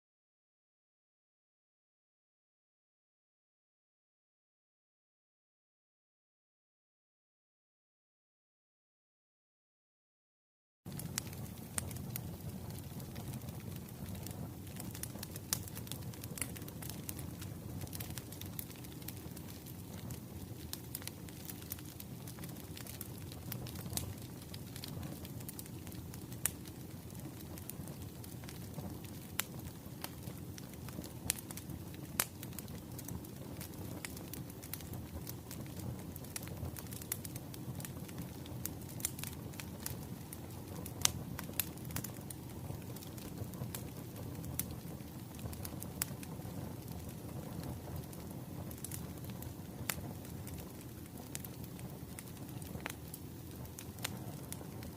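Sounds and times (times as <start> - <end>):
fire popping: 10.9 - 54.9
wood fire crackling: 10.9 - 54.9.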